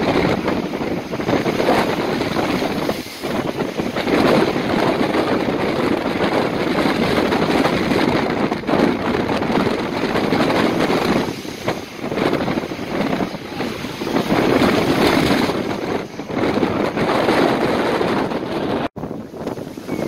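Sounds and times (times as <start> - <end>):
waves breaking against concrete: 0.0 - 18.4
wind buffeting microphone: 0.0 - 20.0.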